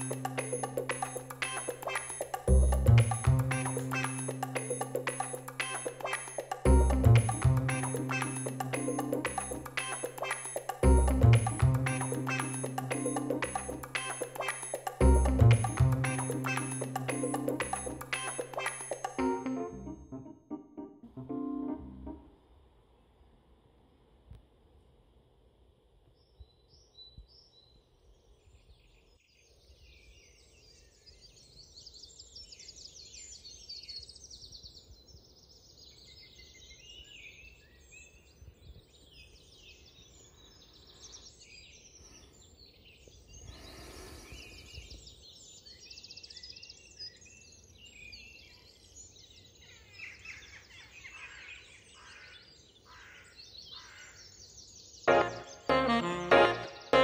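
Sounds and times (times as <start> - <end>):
small birds singing: 0.0 - 19.5, 26.1 - 57.0.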